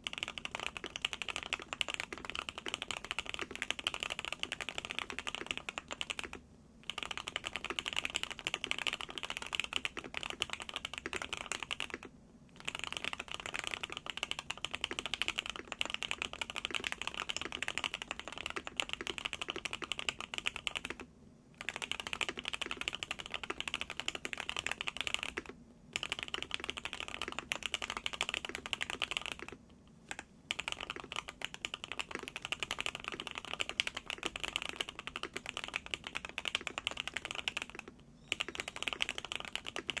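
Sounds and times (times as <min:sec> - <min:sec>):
mechanical keyboard typing: 0:00.0 - 0:21.0, 0:21.6 - 0:40.0.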